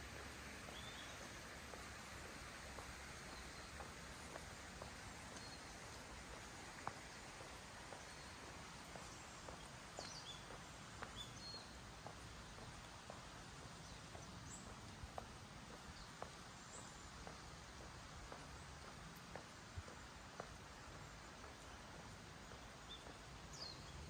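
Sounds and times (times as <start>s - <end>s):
faint steady hiss: 0.0s - 24.0s
footsteps walking: 0.1s - 24.0s.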